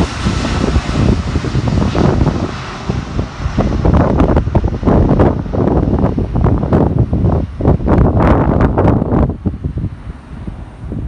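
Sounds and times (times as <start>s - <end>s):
jet airliner rumble: 0.0s - 11.0s
wind buffeting microphone: 0.0s - 11.0s.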